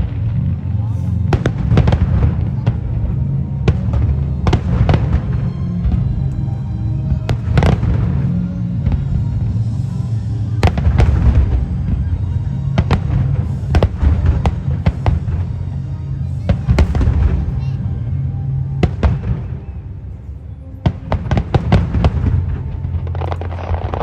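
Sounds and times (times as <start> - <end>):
fireworks cracks and booms: 0.0 - 9.7, 10.6 - 17.9, 18.8 - 19.7, 20.8 - 24.0
low rumble: 0.0 - 24.0
music: 0.0 - 24.0.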